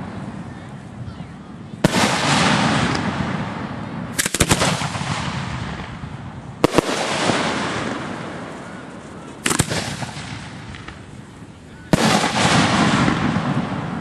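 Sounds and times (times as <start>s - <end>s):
fireworks firing: 1.8s - 14.0s.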